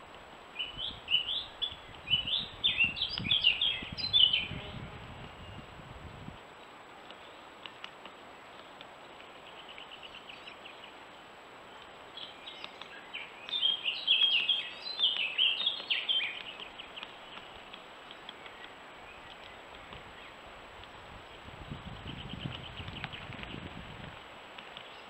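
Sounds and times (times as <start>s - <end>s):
songbirds chirping: 0.0s - 5.8s, 6.4s - 25.0s
steady background hiss: 0.0s - 25.0s.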